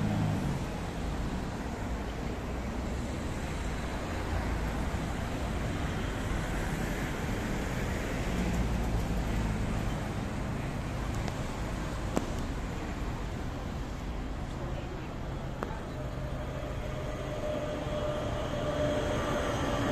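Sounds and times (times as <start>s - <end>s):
cars driving past: 0.0s - 19.9s.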